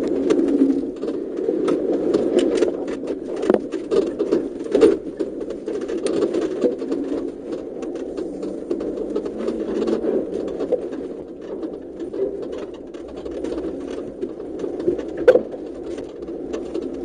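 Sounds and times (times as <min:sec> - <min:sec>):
rattling and clicking: 0:00.0 - 0:17.0.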